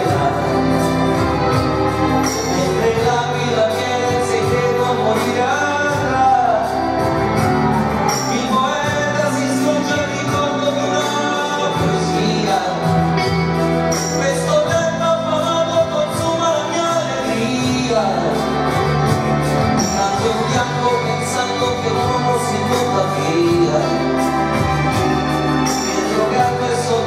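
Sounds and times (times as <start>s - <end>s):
drums and percussion: 0.0s - 27.0s
live pop ballad with strings: 0.0s - 27.0s
man singing: 0.0s - 27.0s.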